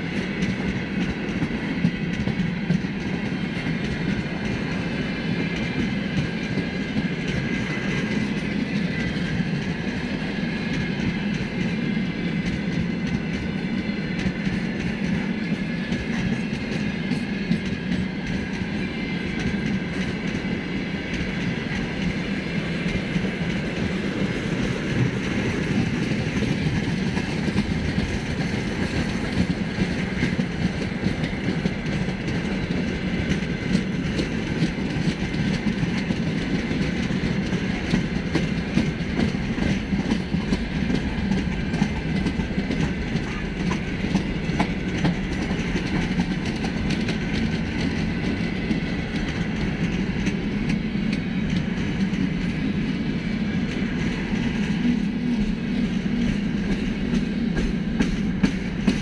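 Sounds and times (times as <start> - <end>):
train wheels rumbling on rail: 0.0 - 59.0
wheels clicking over rail joints: 0.2 - 52.5.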